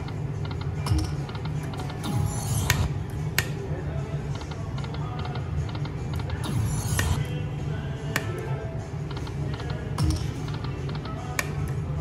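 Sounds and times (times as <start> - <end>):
casino background hum: 0.0 - 12.0.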